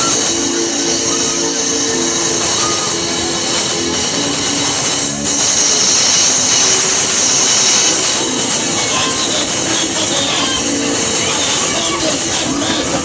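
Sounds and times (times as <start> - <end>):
hissy noise: 0.0 - 13.0
loud music with held notes: 0.0 - 13.0.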